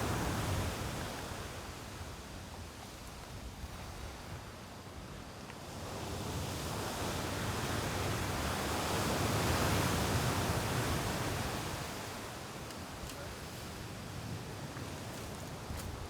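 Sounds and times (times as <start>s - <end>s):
surf on a beach: 0.0s - 15.7s
wind: 0.0s - 16.0s.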